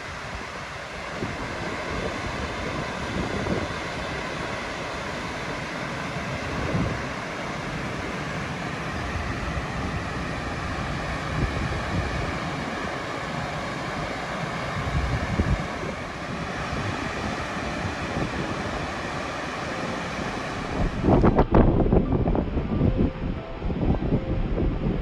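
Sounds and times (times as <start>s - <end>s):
waterfall rushing: 0.0s - 23.5s
wind buffeting microphone: 0.0s - 25.0s.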